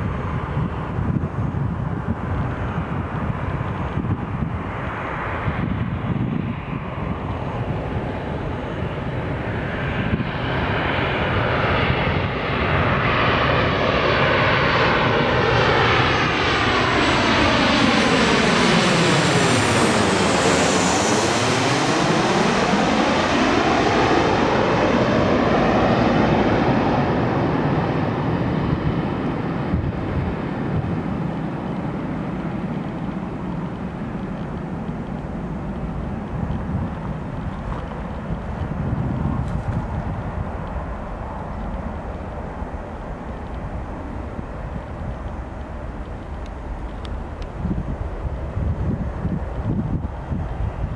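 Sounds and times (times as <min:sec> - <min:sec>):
jet plane passing close: 0:00.0 - 0:50.9.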